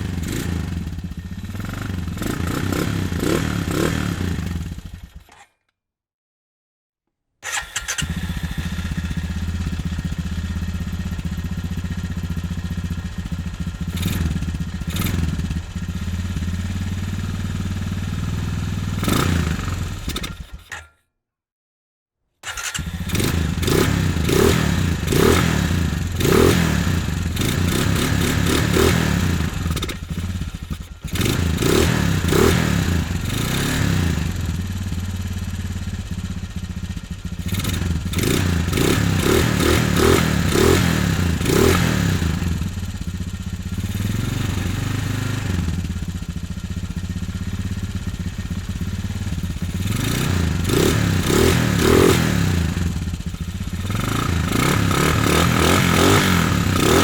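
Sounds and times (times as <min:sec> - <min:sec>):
quad bike engine idling: 0:00.0 - 0:05.2, 0:07.5 - 0:20.6, 0:22.5 - 0:57.0.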